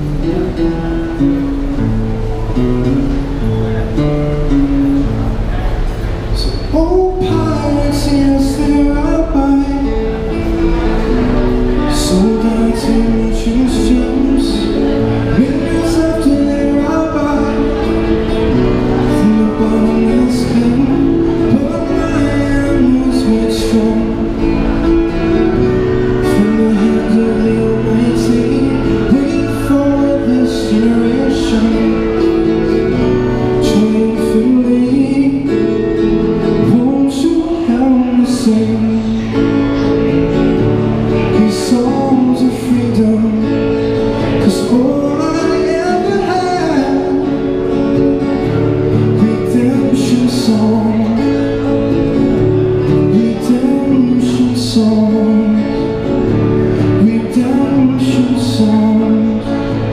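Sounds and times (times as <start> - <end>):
acoustic guitar strumming: 0.0 - 59.9
man singing into microphone: 6.3 - 59.9.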